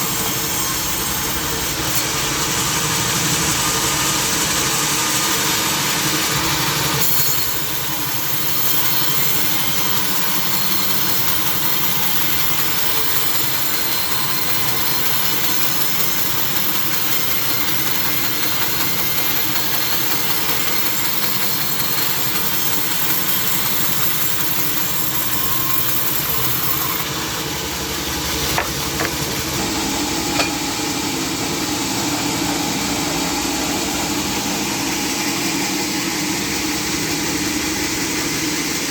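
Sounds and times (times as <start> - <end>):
sawmill saw running: 0.0 - 38.9.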